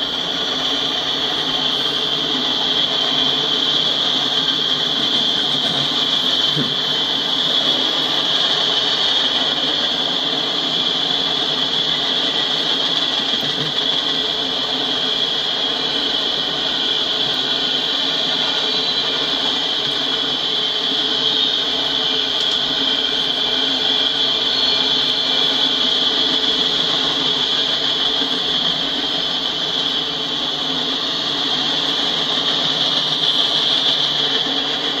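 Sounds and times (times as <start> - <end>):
train wheels grinding on rail: 0.0 - 35.0.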